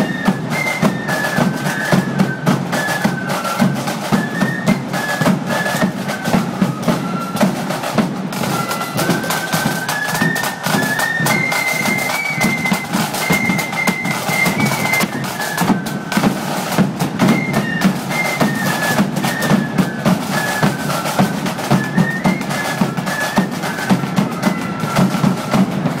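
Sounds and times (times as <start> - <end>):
bass and snare drums: 0.0 - 26.0
flutes playing a melody: 0.0 - 26.0.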